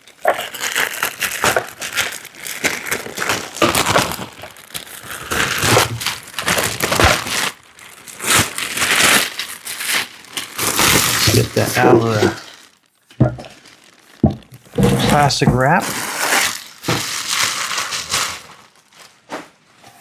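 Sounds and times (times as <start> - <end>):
plastic wrap and cardboard crinkling: 0.0 - 20.0.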